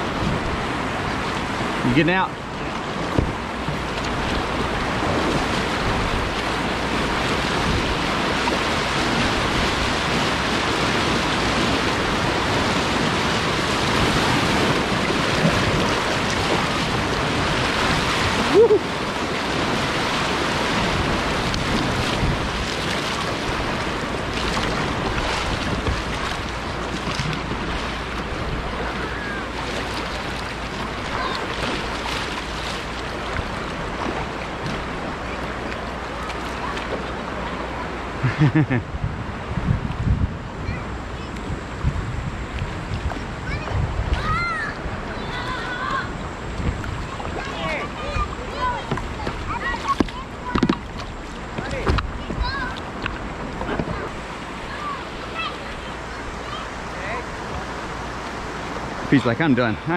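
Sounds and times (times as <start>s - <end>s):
whitewater rapids rushing: 0.0s - 38.4s, 42.3s - 59.9s.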